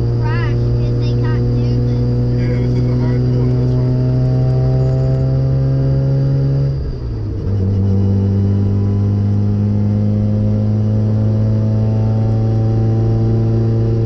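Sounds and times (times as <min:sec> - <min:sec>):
car engine from inside cabin: 0:00.0 - 0:14.0.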